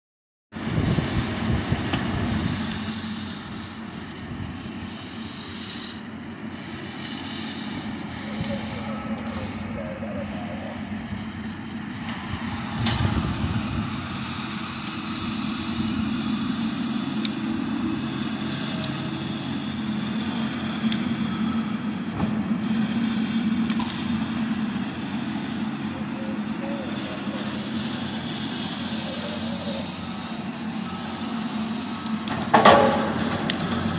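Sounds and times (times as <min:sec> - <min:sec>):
diesel engine running: 0:00.5 - 0:33.9.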